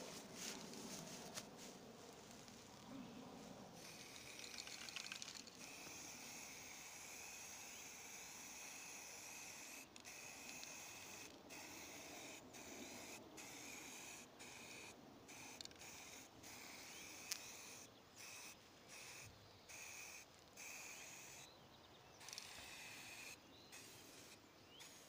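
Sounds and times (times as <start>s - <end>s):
aerosol spray can hissing: 3.8s - 21.4s, 22.2s - 25.0s.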